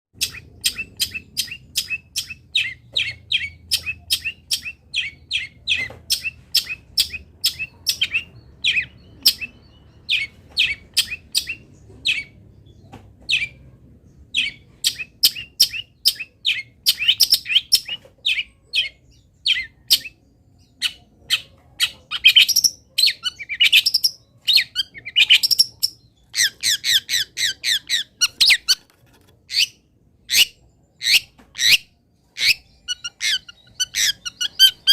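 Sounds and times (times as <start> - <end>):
bird chirping and twittering: 0.2 - 34.9.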